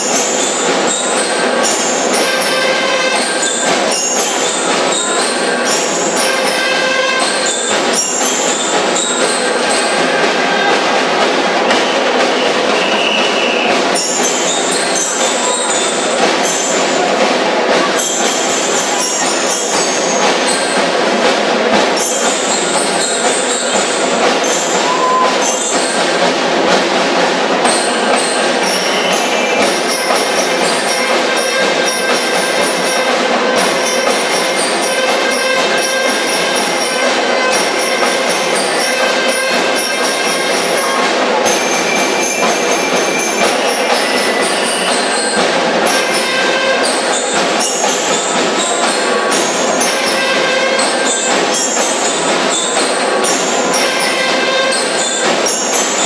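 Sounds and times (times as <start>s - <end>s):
ringing bell-like tones: 0.0s - 11.4s, 12.0s - 27.0s, 27.6s - 56.0s
snare drum cadence: 0.0s - 56.0s.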